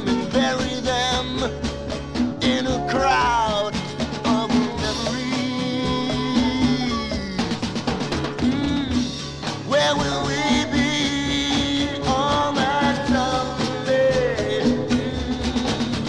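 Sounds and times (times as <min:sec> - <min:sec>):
drums keeping a beat: 0:00.0 - 0:16.0.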